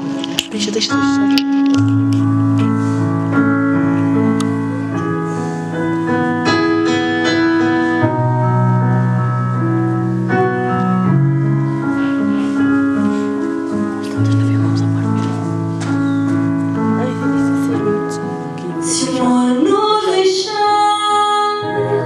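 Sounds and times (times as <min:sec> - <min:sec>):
keyboard chords: 0:00.0 - 0:22.0.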